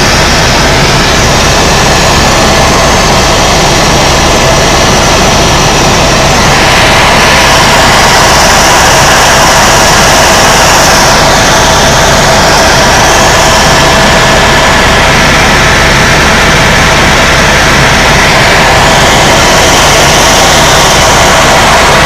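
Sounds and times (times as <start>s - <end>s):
faint constant whine: 0.0s - 22.0s
helicopter turbine and rotor noise: 0.0s - 22.0s.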